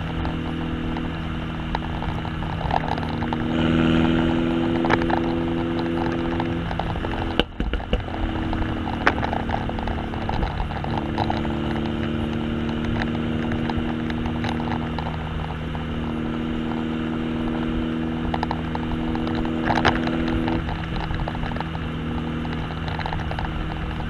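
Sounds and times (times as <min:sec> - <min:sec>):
car exhaust idling: 0:00.0 - 0:24.0.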